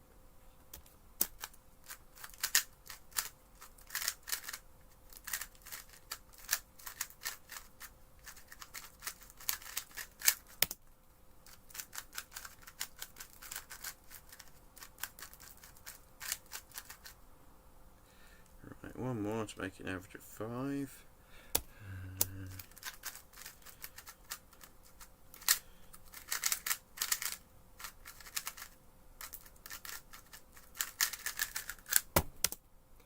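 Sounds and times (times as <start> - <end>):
puzzle cube clacking: 0.7 - 10.8, 11.5 - 17.2, 21.6 - 32.6.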